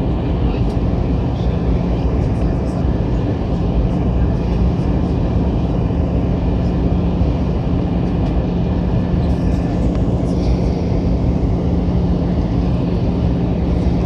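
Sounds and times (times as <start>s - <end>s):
airliner cabin engine rush: 0.0s - 14.0s
low engine hum: 0.0s - 14.0s.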